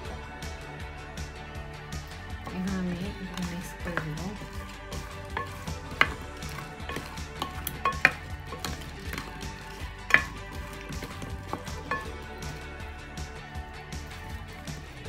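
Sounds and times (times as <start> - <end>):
background music: 0.0 - 15.0
wooden spoon scraping glass dish: 2.1 - 15.0.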